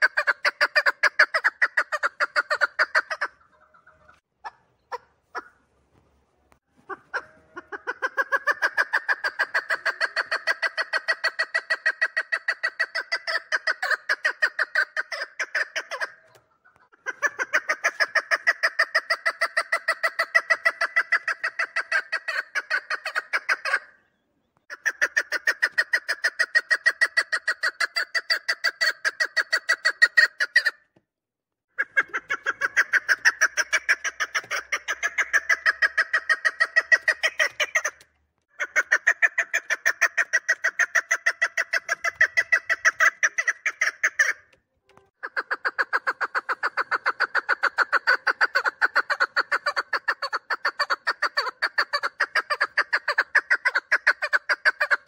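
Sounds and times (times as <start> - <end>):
partridge rapid clucking: 0.0 - 5.5, 6.9 - 23.9, 31.8 - 55.0.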